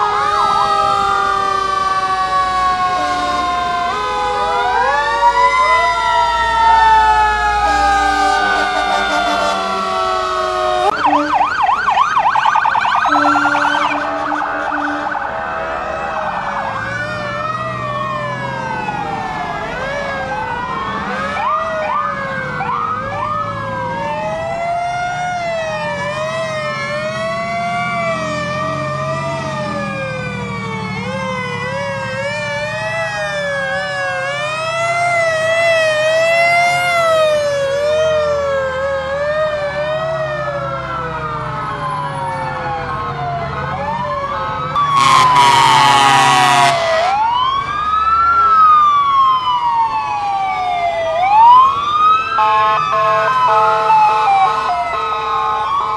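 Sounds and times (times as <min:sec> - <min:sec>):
fire truck sirens wailing: 0:00.0 - 0:55.9
truck engines rumbling: 0:00.0 - 0:55.9
warbling sirens: 0:00.0 - 0:55.9.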